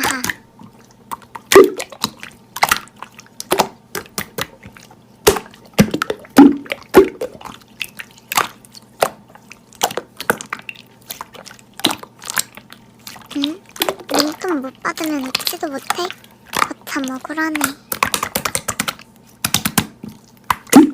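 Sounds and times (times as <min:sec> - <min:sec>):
slime squishing with wet clicks: 0:00.0 - 0:20.9.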